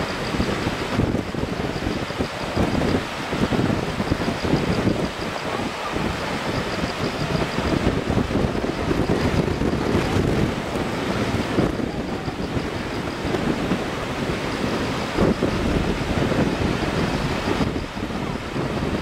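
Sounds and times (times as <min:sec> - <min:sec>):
gusty wind buffeting microphone: 0:00.0 - 0:19.0
river rushing: 0:00.0 - 0:19.0.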